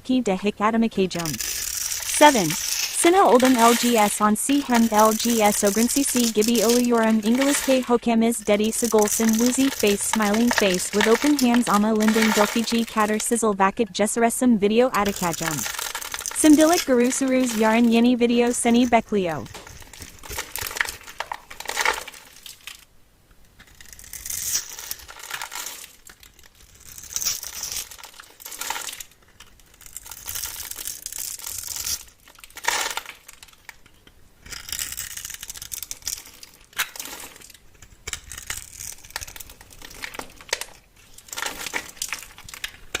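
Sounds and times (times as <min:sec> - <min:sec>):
dry material crackling and crinkling: 0:00.9 - 0:13.8, 0:14.6 - 0:22.9, 0:23.5 - 0:43.0.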